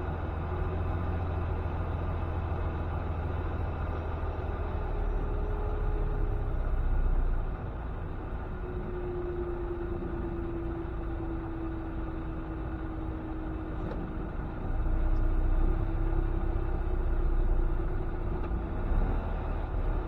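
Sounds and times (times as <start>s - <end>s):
truck engine drone inside cab: 0.0s - 20.0s.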